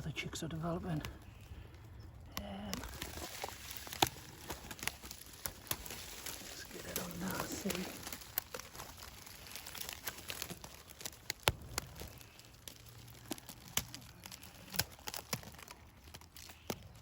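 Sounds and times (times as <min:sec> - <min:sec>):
vegetation rustling and snapping: 0:00.8 - 0:17.0.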